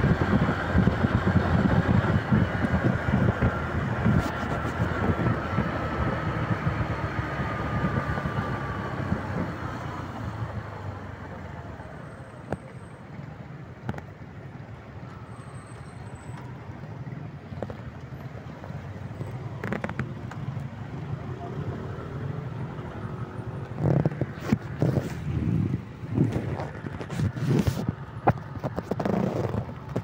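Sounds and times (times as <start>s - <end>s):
motorcycle engine rumbling: 0.0s - 15.0s, 16.4s - 30.0s.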